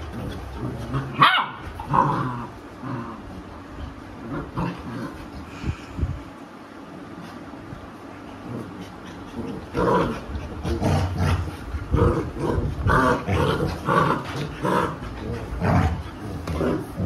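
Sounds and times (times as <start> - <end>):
dogs growling and snarling: 0.0 - 5.6, 8.2 - 17.0.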